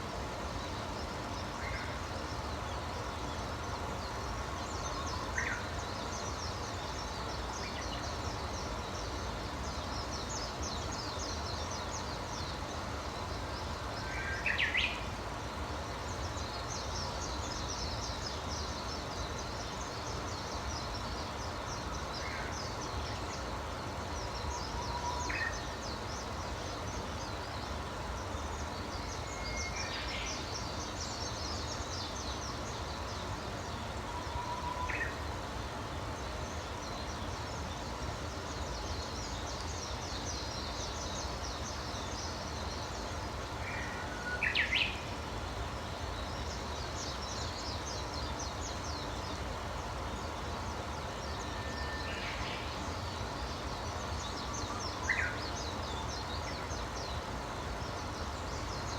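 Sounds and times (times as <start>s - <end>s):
steady low background noise: 0.0s - 58.9s.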